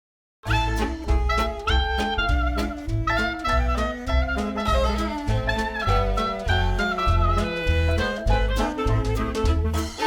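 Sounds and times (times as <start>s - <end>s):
upbeat swing music with brass: 0.4s - 10.0s.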